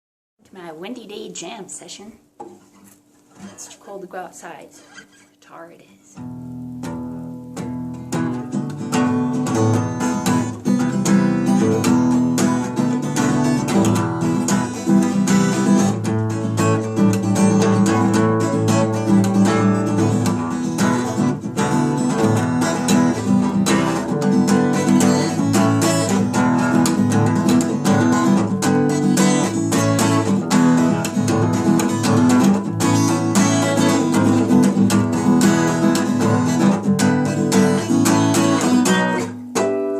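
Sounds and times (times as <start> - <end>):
acoustic guitar: 0.5 - 39.9.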